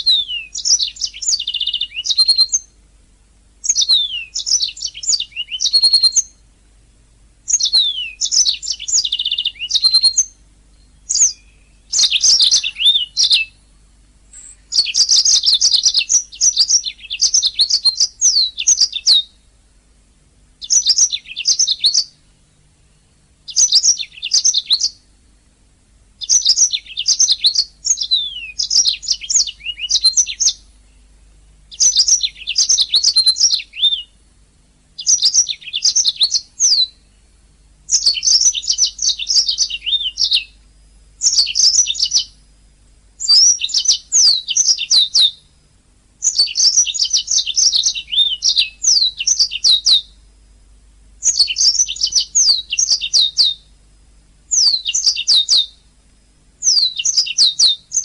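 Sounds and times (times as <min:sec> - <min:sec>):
canary singing: 0:00.0 - 0:02.8, 0:03.6 - 0:06.5, 0:07.4 - 0:19.5, 0:20.6 - 0:25.2, 0:26.2 - 0:34.4, 0:35.0 - 0:42.5, 0:43.2 - 0:45.6, 0:46.2 - 0:50.3, 0:51.2 - 0:53.8, 0:54.5 - 0:55.9, 0:56.6 - 0:58.0.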